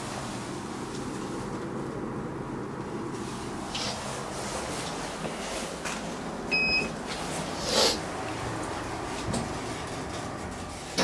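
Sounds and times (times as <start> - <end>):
elevator ride hum: 0.0 - 11.0.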